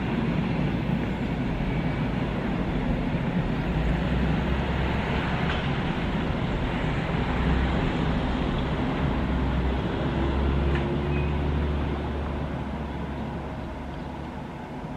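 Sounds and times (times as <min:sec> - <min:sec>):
road traffic rumble: 0:00.0 - 0:14.9.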